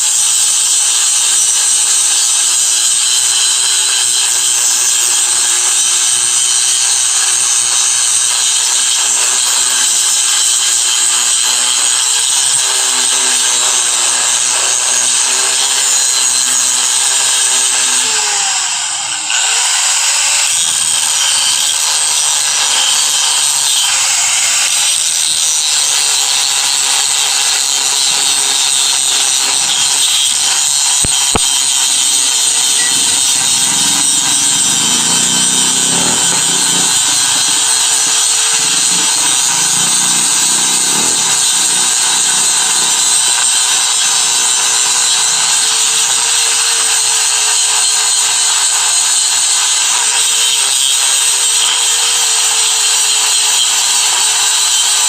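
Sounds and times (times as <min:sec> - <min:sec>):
angle grinder grinding metal: 0:00.0 - 0:55.0.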